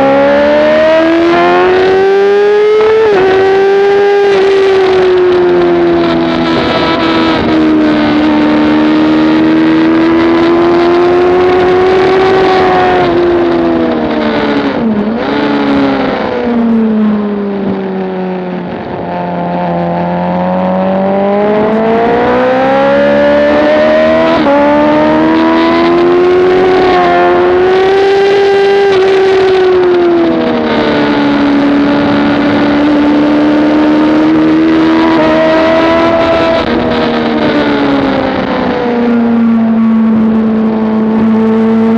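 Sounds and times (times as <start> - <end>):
motorcycle engine at speed: 0.0 - 41.9
wind rush: 0.0 - 41.9.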